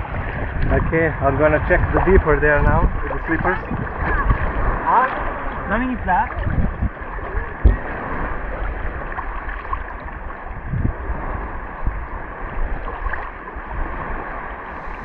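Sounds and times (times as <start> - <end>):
water sloshing around wading: 1.6 - 15.0.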